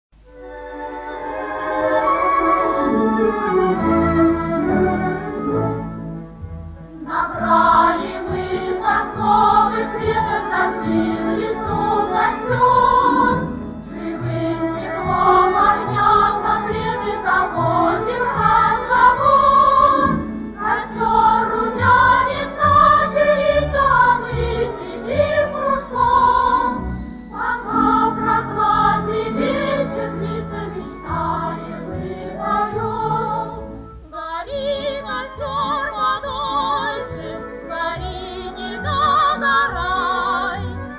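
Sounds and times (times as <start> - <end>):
song with instrumental accompaniment: 0.2 - 40.9.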